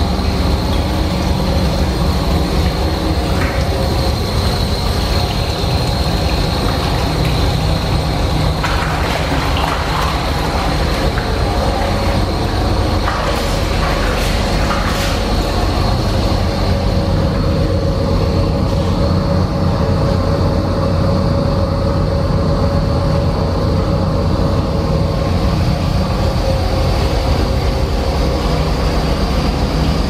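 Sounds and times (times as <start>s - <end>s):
ship engine rumbling drone: 0.0s - 30.0s.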